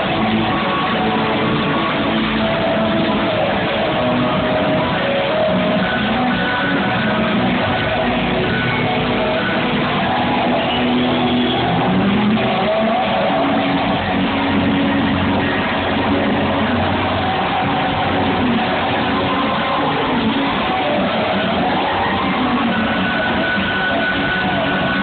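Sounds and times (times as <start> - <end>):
drums: 0.0 - 25.0.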